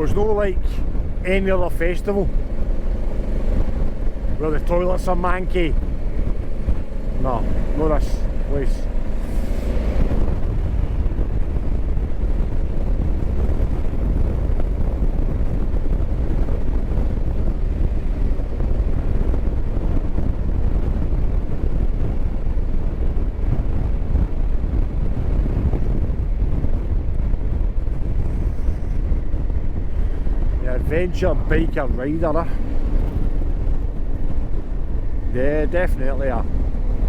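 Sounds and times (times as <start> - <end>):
motorcycle engine rumble: 0.0 - 37.0
wind rushing over microphone: 0.0 - 37.0.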